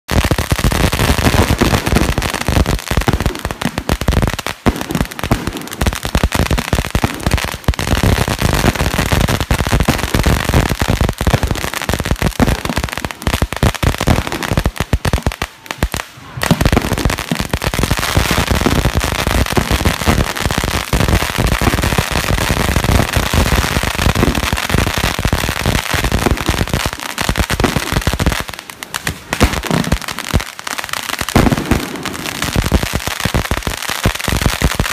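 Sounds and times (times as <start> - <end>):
firecrackers crackling: 0.1 - 34.9.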